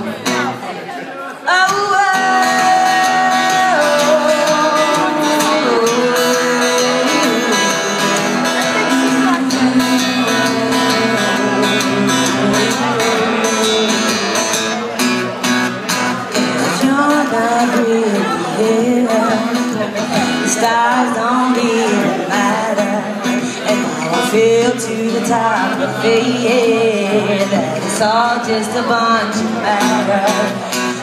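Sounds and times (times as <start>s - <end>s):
acoustic guitar playing: 0.0s - 31.0s
woman singing: 1.5s - 14.3s, 16.6s - 31.0s.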